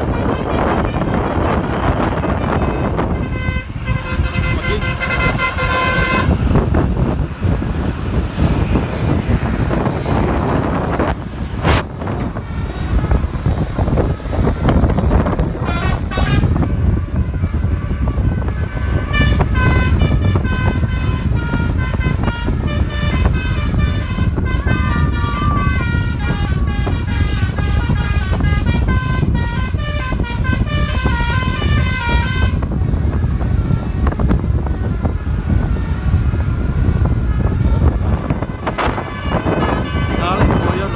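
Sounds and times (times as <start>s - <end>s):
bus horn playing a tune: 0.0s - 40.9s
low rumble of engines and traffic: 0.0s - 40.9s
short horn blasts: 0.0s - 40.9s.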